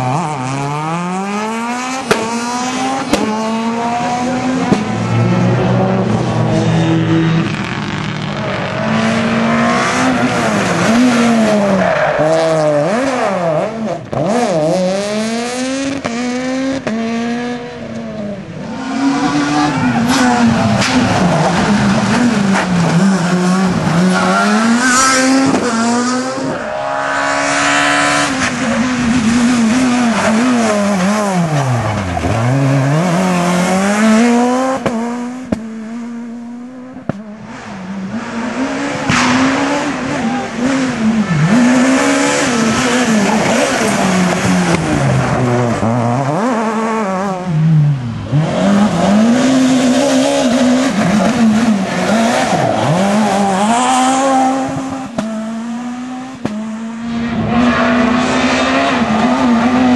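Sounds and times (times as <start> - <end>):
rally car engines at full throttle: 0.0 - 59.9.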